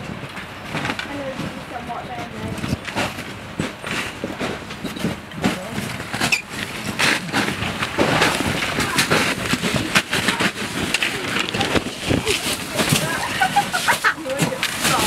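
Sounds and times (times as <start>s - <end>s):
voices of hikers: 0.0s - 15.0s.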